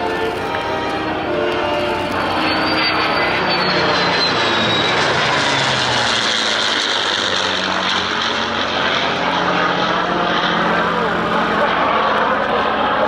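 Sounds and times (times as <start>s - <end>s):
jet engine rush: 0.0s - 13.0s
piston engine and propeller drone: 0.0s - 13.0s.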